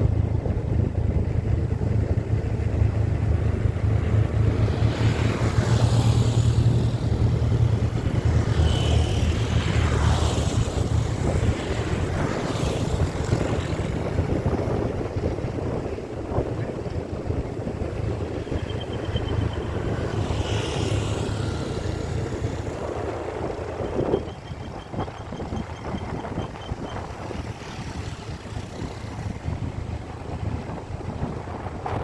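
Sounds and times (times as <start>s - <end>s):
vehicle and road noise: 0.0s - 32.0s
wind rumble on microphone: 0.0s - 32.0s.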